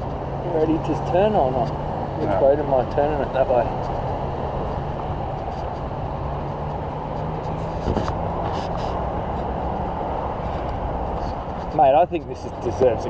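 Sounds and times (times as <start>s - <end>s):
low engine hum: 0.0s - 13.0s
road traffic rumble: 0.0s - 13.0s.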